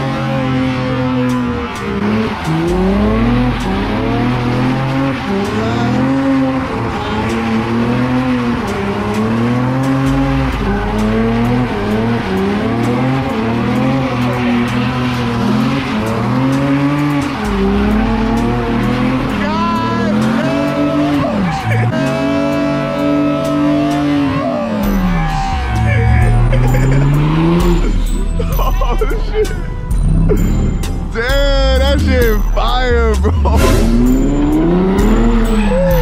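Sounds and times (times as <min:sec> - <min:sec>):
car engine revving: 0:00.0 - 0:36.0
tires squealing on pavement: 0:00.0 - 0:36.0.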